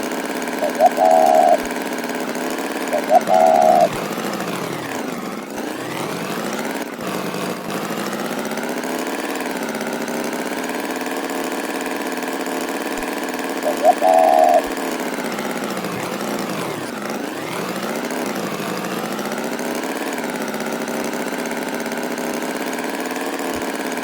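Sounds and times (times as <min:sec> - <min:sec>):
droning engine: 0:00.0 - 0:24.0.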